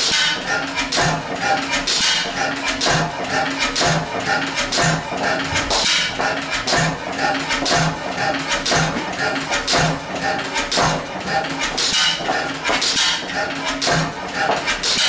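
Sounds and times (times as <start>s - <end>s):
rhythmic metallic clatter: 0.0s - 15.0s
stationary gas engine running: 0.0s - 15.0s.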